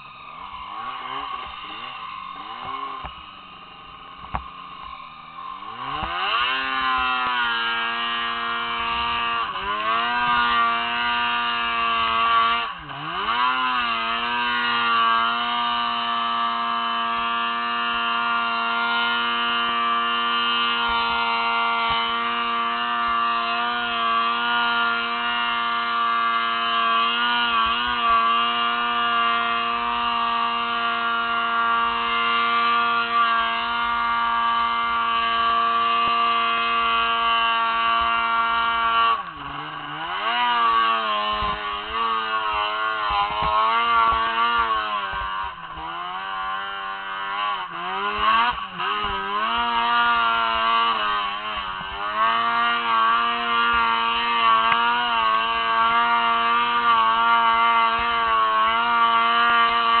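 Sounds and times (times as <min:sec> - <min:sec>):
snowmobile engine at high revs: 0:00.0 - 1:00.0.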